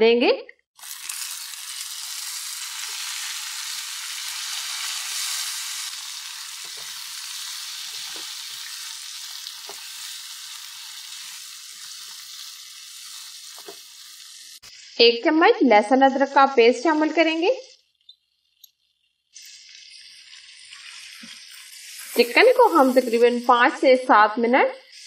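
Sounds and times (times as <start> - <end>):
chicken sizzling in a wok: 0.8 - 25.0.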